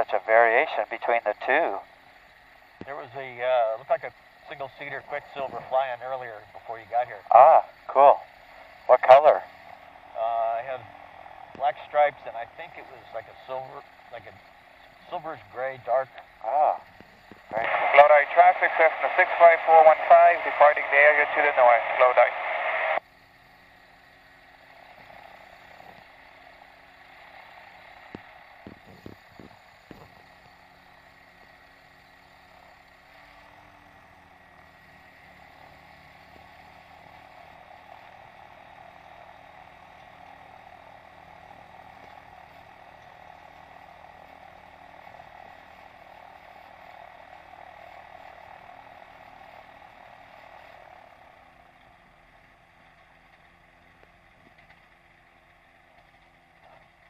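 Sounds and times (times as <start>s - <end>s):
muffled aircraft engine drone: 0.0s - 57.0s.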